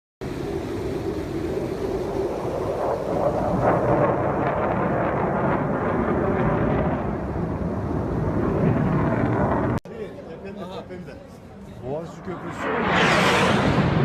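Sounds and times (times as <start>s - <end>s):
jet aircraft flying low overhead: 0.2s - 9.8s, 11.9s - 14.0s.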